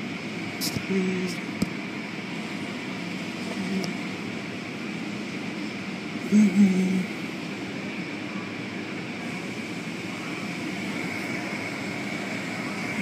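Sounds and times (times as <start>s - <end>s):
high machine whine: 0.0s - 13.0s.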